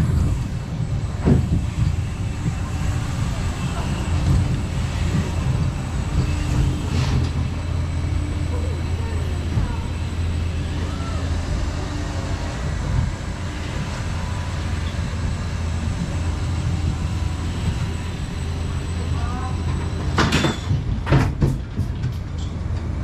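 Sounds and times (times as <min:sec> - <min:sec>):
roller coaster rumbling on track: 0:00.0 - 0:23.0.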